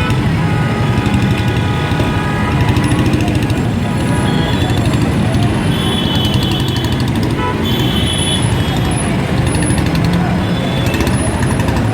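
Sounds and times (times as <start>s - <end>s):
traffic engines rumbling: 0.0s - 11.9s.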